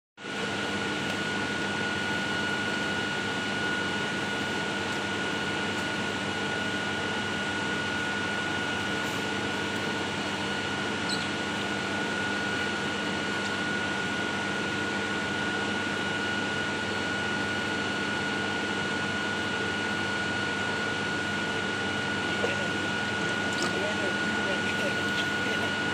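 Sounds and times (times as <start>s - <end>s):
machine hum: 0.2s - 25.9s.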